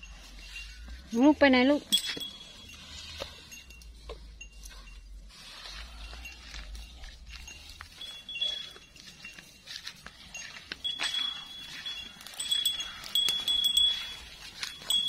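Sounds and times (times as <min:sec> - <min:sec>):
small metal bell tinkling: 0:00.0 - 0:05.3, 0:06.0 - 0:15.0
rustling brush: 0:00.0 - 0:15.0.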